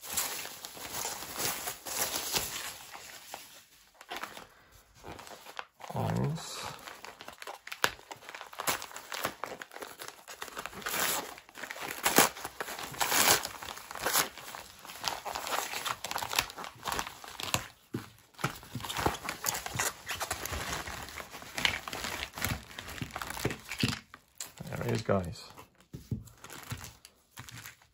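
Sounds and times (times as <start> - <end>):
packaging crinkling and rustling: 0.0 - 27.9.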